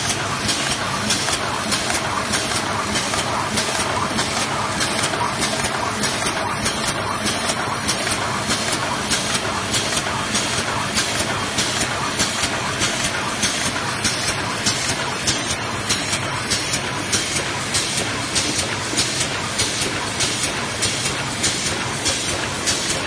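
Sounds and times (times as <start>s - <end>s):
packing machine running: 0.0s - 23.0s.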